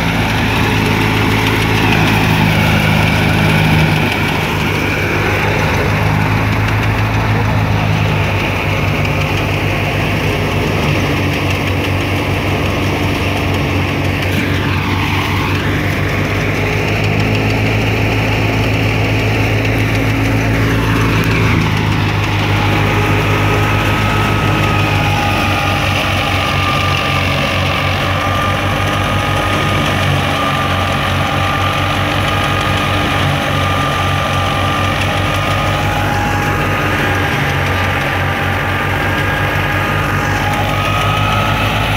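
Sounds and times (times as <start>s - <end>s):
diesel tractor engine under load: 0.0s - 41.9s
steady high whine: 0.0s - 41.9s
thresher drum and fan turning: 0.0s - 41.9s.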